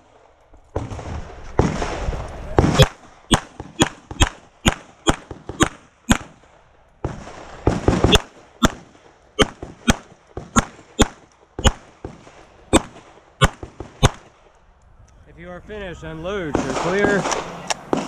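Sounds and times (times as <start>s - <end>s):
pistol shots: 0.8s - 14.4s, 16.5s - 18.0s.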